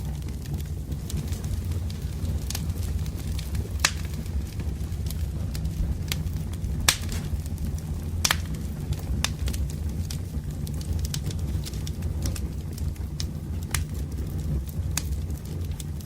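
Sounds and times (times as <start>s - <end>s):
firewood crackling and popping: 0.0s - 16.0s
low rumble of flames: 0.0s - 16.0s.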